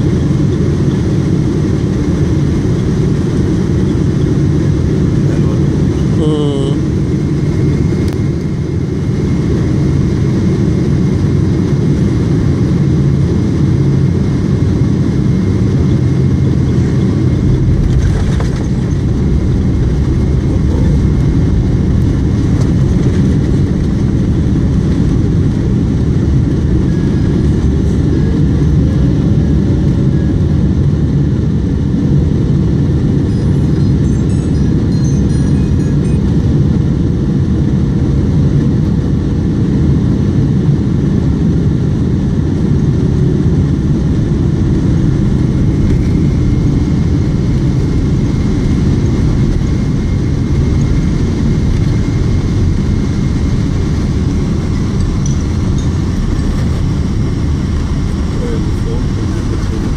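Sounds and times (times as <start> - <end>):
rush of engines and airflow: 0.0 - 59.9
wheels rumbling on runway: 0.0 - 59.9.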